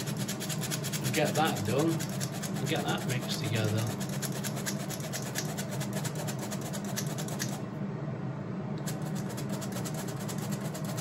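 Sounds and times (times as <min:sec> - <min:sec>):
flour sifting through sieve: 0:00.0 - 0:07.6, 0:08.9 - 0:11.0
oven fan humming: 0:00.0 - 0:11.0.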